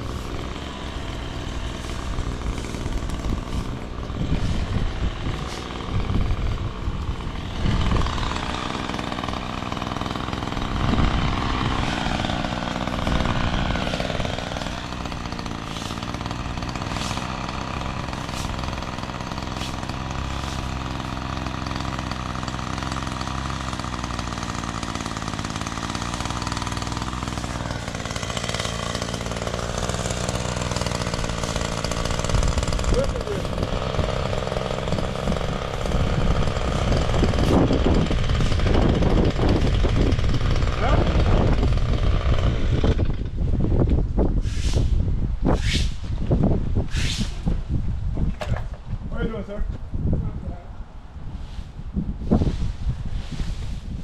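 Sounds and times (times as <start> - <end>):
motor engine running: 0.0 - 43.6.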